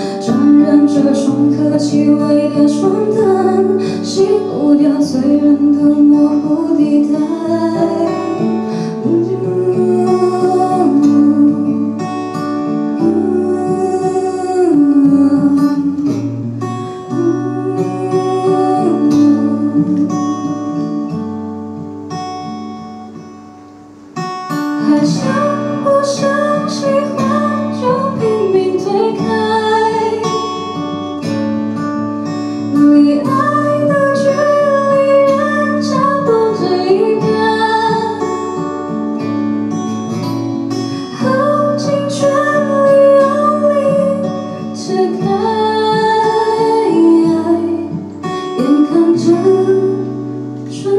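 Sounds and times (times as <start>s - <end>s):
woman singing slow song: 0.0s - 21.8s, 24.2s - 50.9s
acoustic guitar: 0.0s - 50.9s.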